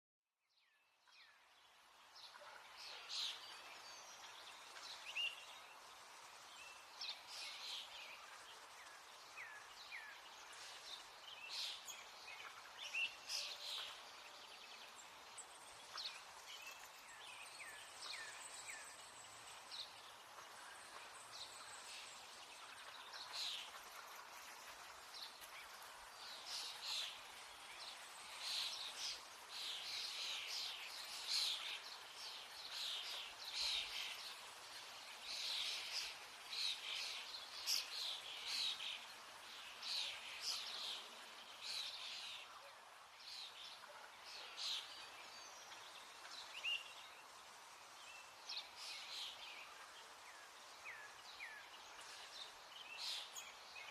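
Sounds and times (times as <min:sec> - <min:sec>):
steady faint hiss: 0:00.8 - 0:53.9.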